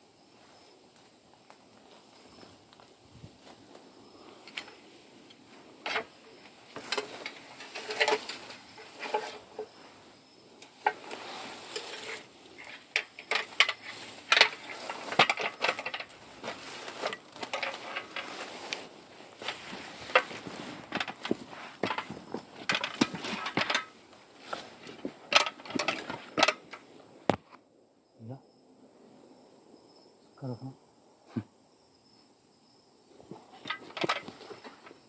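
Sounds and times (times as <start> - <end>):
faint high insect drone: 0.0 - 35.0
leaves and twigs rustling: 0.2 - 27.6, 33.1 - 35.0.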